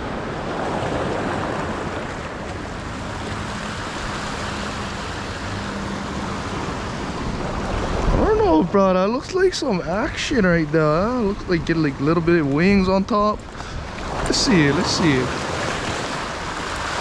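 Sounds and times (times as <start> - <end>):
waves washing over rocks: 0.0 - 17.0.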